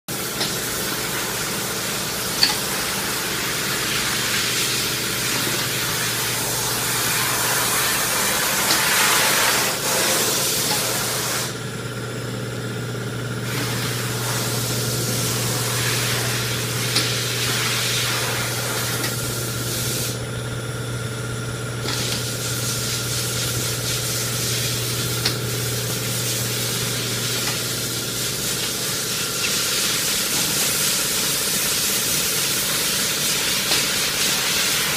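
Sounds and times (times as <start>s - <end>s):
low machine hum: 0.1s - 34.9s.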